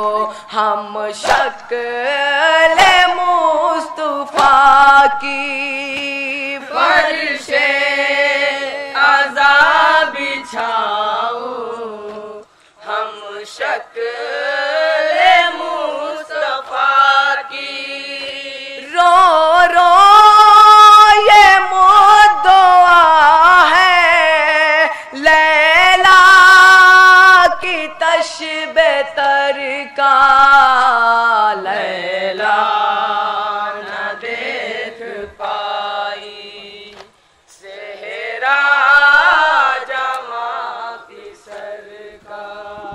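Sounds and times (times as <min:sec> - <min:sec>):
boys chanting: 0:00.0 - 0:22.8, 0:25.1 - 0:36.9, 0:37.6 - 0:42.9.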